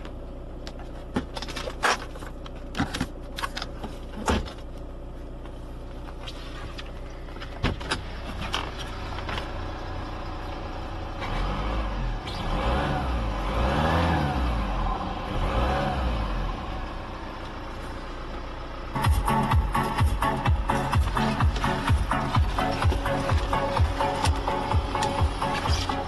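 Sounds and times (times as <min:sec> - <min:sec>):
diesel engine idling and revving: 0:00.0 - 0:26.0.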